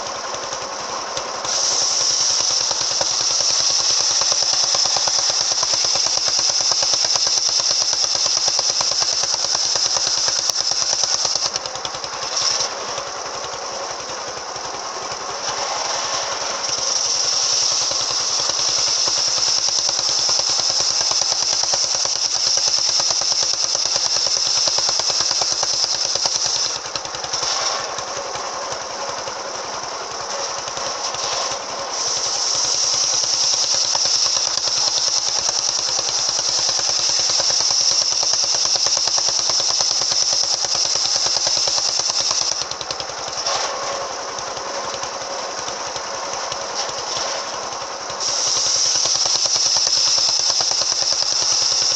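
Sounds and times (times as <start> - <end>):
saw blade whining through wood: 0.0 - 51.9
saw engine running: 0.0 - 51.9.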